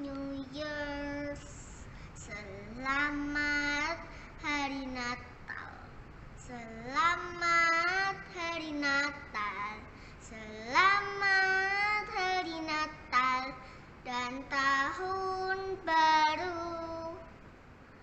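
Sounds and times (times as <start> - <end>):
girl singing unaccompanied: 0.0 - 17.4.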